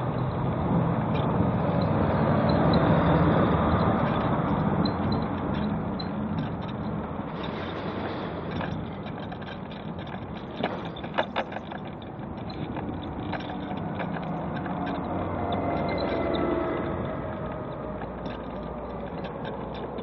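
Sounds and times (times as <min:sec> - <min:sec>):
mobility scooter motor hum: 0:02.6 - 0:20.0.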